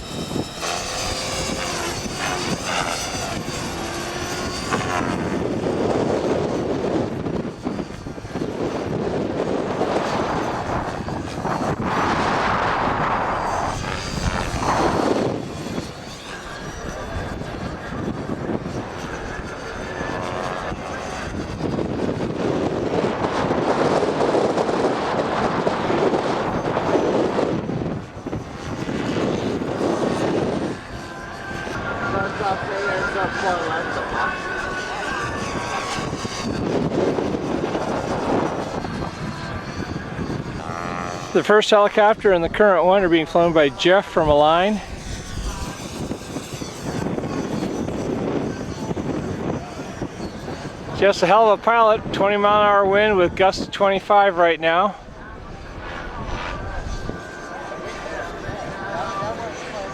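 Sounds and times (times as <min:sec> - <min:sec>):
model helicopter rotor and motor: 0:00.0 - 0:59.9
wind buffeting microphone: 0:00.0 - 0:59.9.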